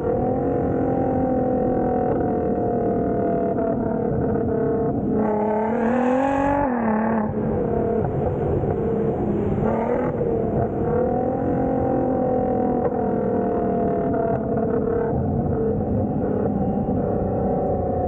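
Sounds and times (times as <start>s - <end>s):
loud car engine revving: 0.0s - 18.0s.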